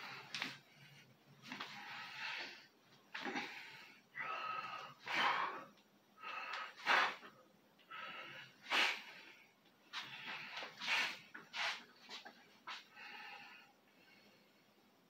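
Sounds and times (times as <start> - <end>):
man breathing hard: 0.0 - 11.9, 12.6 - 14.8.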